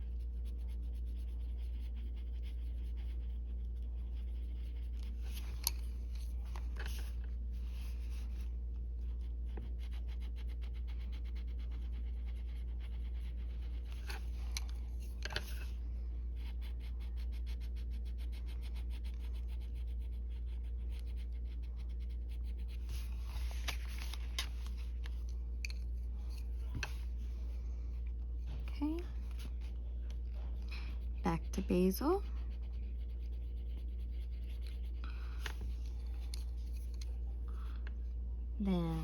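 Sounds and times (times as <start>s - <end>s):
pencil scratching on paper: 0.0s - 37.2s
low electrical hum: 0.0s - 39.0s.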